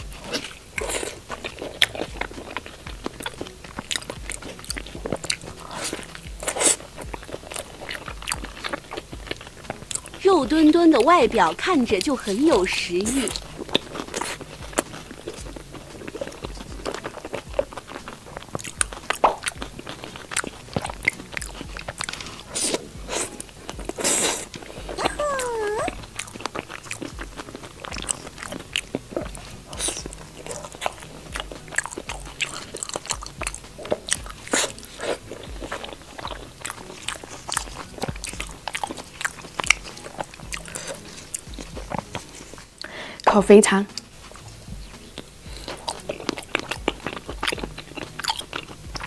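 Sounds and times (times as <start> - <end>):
wet mouth clicks: 0.0 - 10.2, 10.9 - 49.0
crunchy chewing: 0.0 - 49.0.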